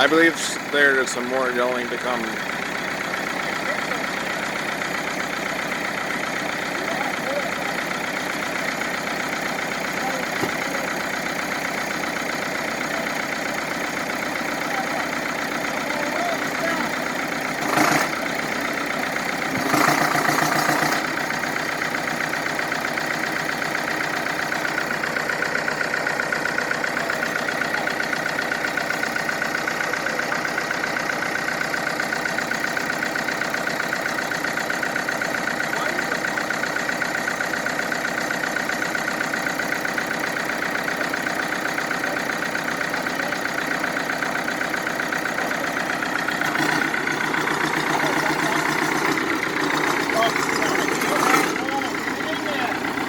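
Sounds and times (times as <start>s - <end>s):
heavy equipment engine running: 0.0s - 53.0s.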